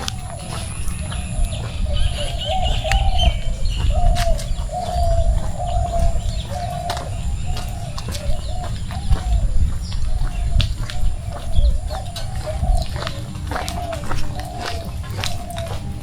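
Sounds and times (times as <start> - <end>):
bird cooing: 0.0 - 16.0.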